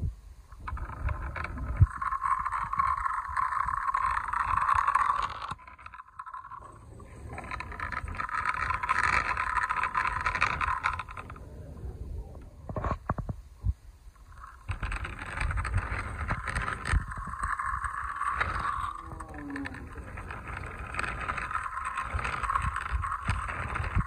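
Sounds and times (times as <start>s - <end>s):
toy car rolling on concrete: 0.5s - 13.4s, 14.2s - 24.0s.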